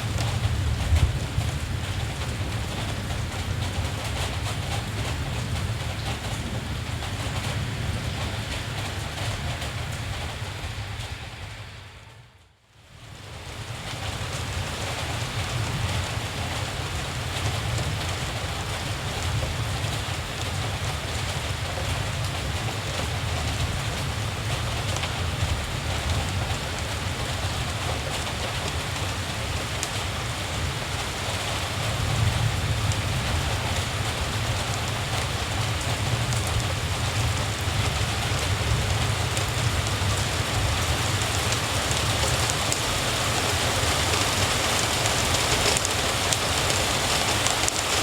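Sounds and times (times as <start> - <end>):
steady rain hiss: 0.0 - 48.0.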